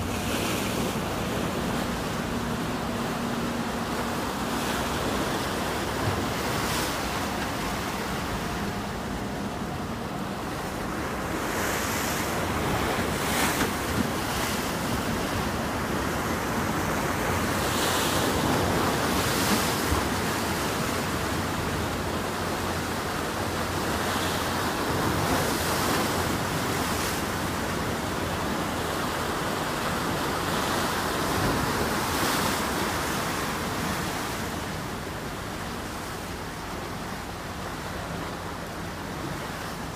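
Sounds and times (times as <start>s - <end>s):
waves rushing: 0.0s - 39.9s
waves splashing: 0.0s - 39.9s.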